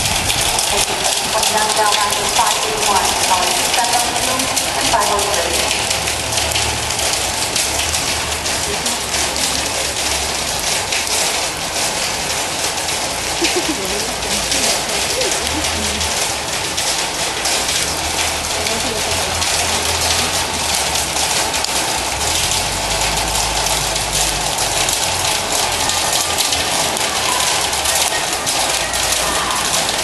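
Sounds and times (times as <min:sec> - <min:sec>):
rain on a metal roof: 0:00.0 - 0:30.0.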